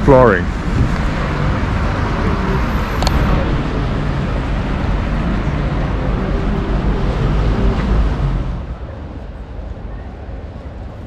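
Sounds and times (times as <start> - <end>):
traffic on wet road: 0.0 - 11.0.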